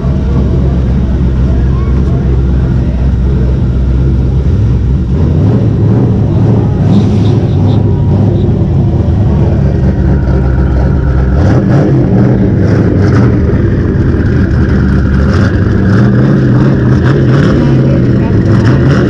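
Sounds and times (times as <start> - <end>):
loud car engine rumbling: 0.0 - 19.0.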